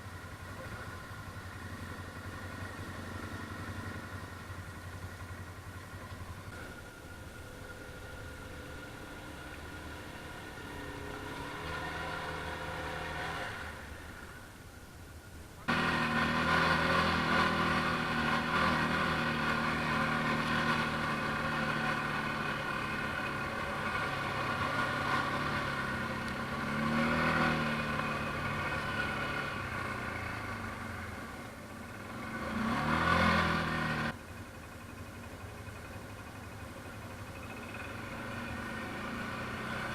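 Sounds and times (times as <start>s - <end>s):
atv engine revving: 0.0s - 14.4s, 15.6s - 39.9s.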